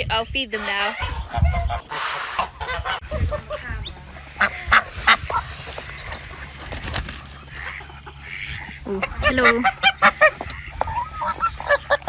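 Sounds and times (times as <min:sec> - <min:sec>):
geese honking: 0:00.3 - 0:12.0.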